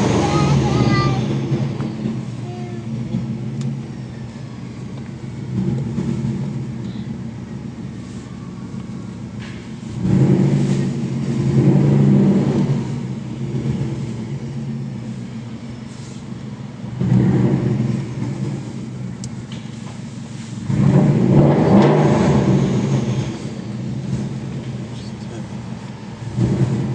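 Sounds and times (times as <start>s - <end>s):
turbocharged car engine accelerating: 0.0s - 26.9s.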